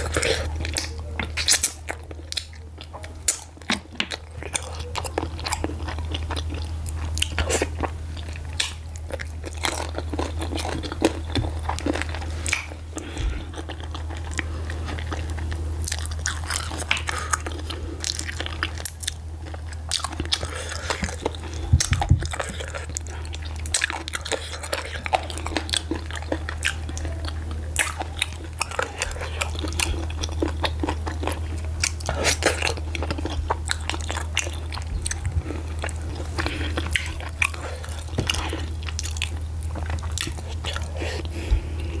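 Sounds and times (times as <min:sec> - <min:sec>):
low hum: 0:00.0 - 0:42.0
wet chewing and mouth smacking: 0:00.0 - 0:42.0.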